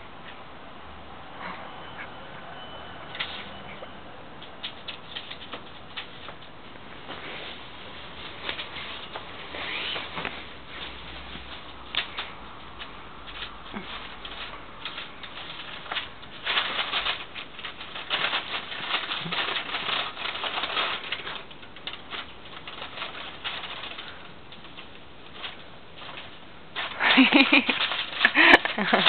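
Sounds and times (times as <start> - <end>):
puppies scuffling on cloth: 4.6 - 24.3, 25.3 - 29.0.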